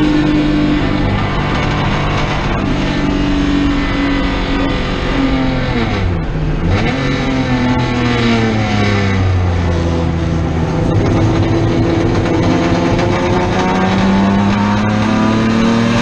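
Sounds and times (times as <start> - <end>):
race car engine revving: 0.0 - 16.0
road and wind noise: 0.0 - 16.0.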